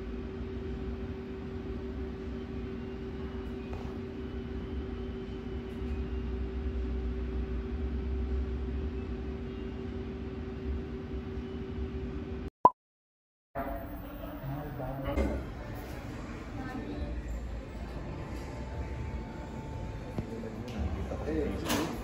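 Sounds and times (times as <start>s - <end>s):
mechanical hum with rumble: 0.0s - 12.5s, 13.6s - 22.0s.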